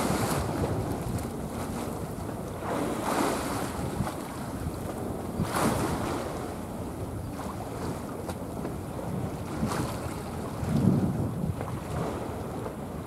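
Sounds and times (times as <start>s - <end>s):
sea waves washing: 0.0s - 13.0s
wind buffeting the microphone: 0.0s - 13.0s.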